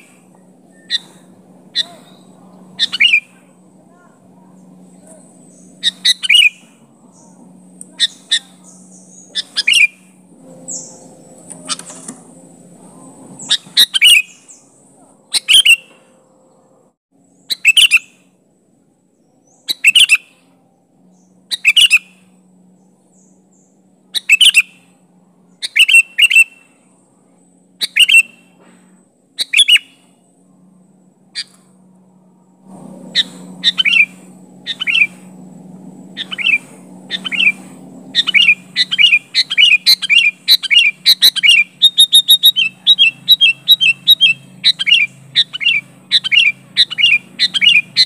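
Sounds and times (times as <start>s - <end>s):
bird calling: 0.0s - 16.7s, 17.3s - 18.4s, 19.3s - 27.0s, 27.6s - 48.0s
faint low hum: 0.0s - 48.0s.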